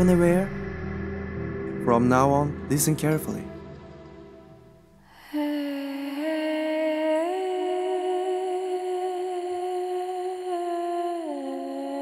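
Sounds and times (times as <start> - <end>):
steady humming tone: 0.0 - 11.7.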